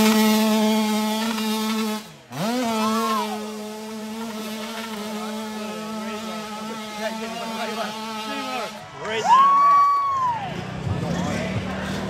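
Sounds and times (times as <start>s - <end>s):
dirt bike engine buzzing: 0.0s - 9.2s, 10.3s - 12.0s.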